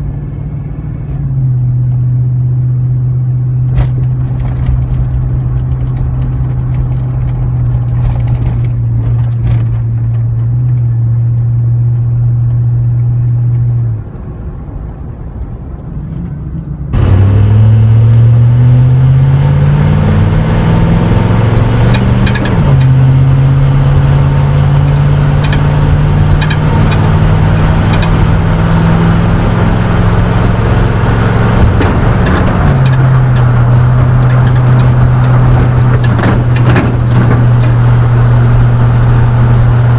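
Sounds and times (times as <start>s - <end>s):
truck exhaust drone accelerating: 0.0s - 39.9s.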